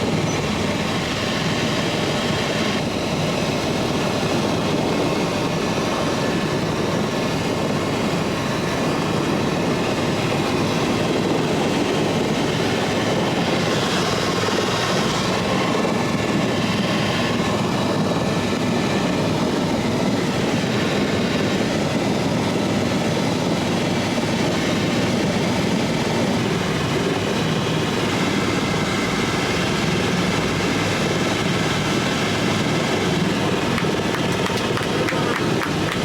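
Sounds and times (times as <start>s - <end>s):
helicopter rotor and turbine noise: 0.0s - 36.0s.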